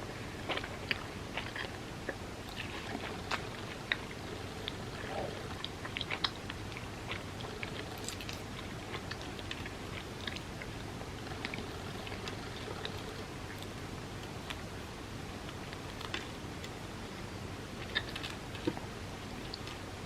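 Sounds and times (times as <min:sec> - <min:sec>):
person chewing food: 0:00.1 - 0:16.8, 0:17.8 - 0:19.9.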